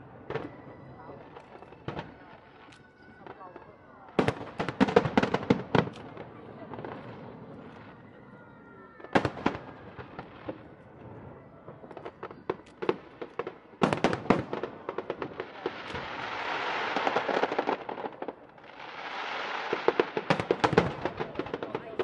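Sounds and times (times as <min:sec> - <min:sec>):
crackling fireworks shells: 0:00.0 - 0:08.1, 0:09.0 - 0:22.0
fireworks bangs: 0:00.0 - 0:08.2, 0:08.9 - 0:22.0.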